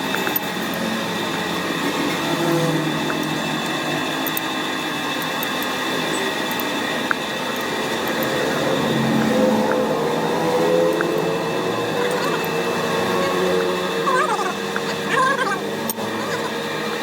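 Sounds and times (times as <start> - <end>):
machine tool whining: 0.0 - 17.0.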